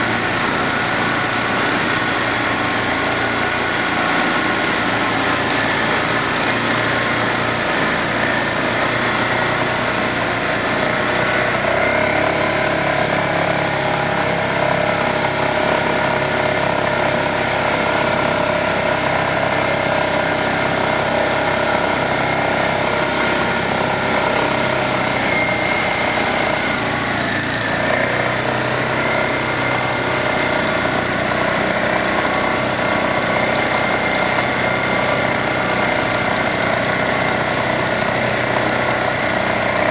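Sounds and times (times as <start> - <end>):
quad engine running under load: 0.0 - 39.9
water rushing: 0.0 - 39.9.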